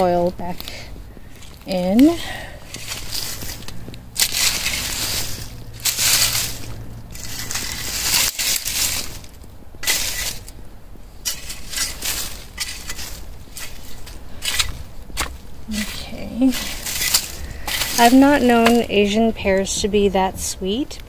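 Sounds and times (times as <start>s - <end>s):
metal tool scraping soil: 0.0s - 10.6s, 11.2s - 19.8s.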